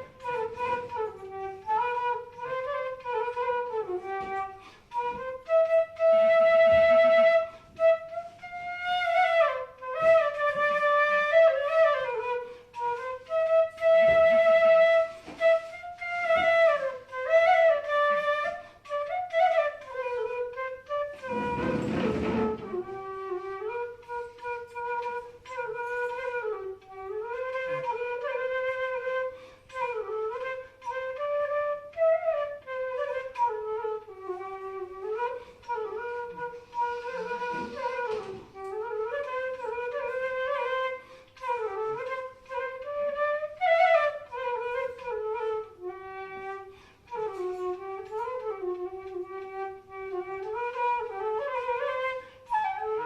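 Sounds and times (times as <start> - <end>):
bamboo flute melody: 0.0 - 53.0.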